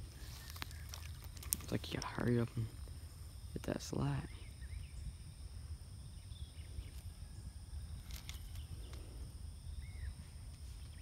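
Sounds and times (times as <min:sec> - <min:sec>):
faint bird chirps: 0:00.0 - 0:11.0
insect drone: 0:00.0 - 0:11.0.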